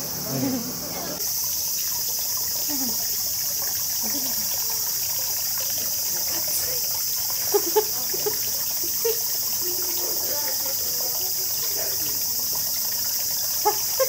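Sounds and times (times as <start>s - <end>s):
insects chirping: 0.0s - 14.0s
water trickling: 0.0s - 14.0s.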